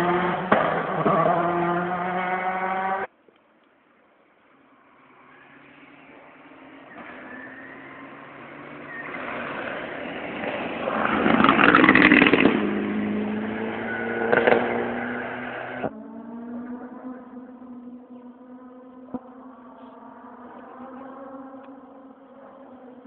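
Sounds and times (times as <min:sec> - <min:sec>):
rally car engine passing: 0:00.0 - 0:03.1, 0:04.8 - 0:23.0.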